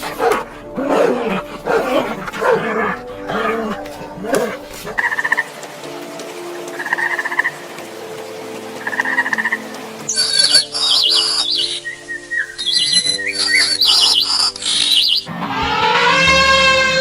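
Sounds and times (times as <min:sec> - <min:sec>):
soft background music: 0:00.0 - 0:17.0
songbird chirping and warbling: 0:00.0 - 0:17.0.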